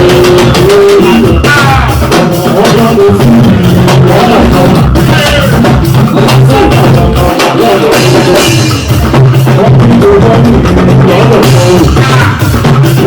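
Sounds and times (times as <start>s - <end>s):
loud band music: 0.0s - 13.0s.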